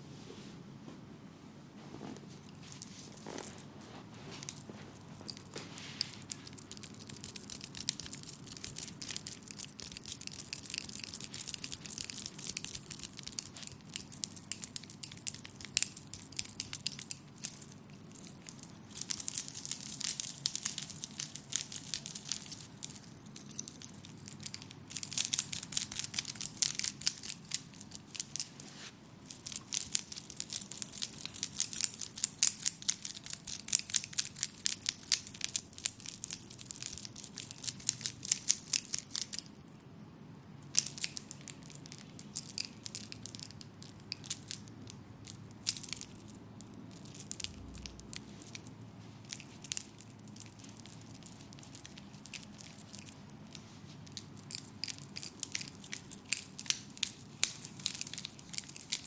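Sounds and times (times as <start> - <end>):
metallic jingling and clicking: 2.4 - 39.8, 40.7 - 59.0.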